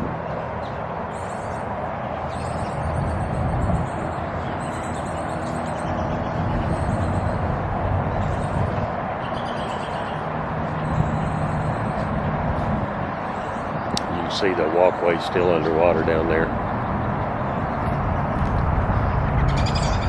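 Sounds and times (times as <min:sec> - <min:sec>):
road traffic rumble: 0:00.0 - 0:20.0
small birds chirping: 0:00.5 - 0:16.5, 0:19.1 - 0:20.0.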